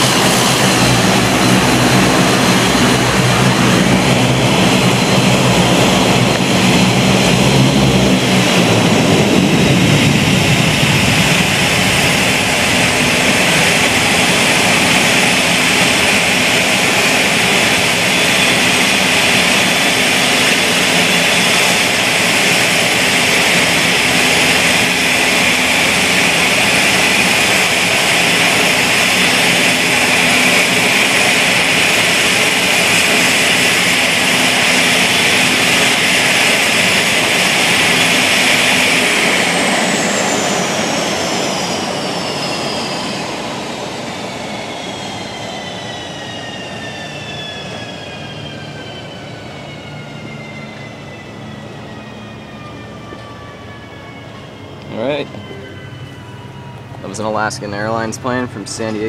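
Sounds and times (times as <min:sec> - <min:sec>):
propeller drone: 0:00.0 - 0:59.0
turbine rush: 0:00.0 - 0:59.0.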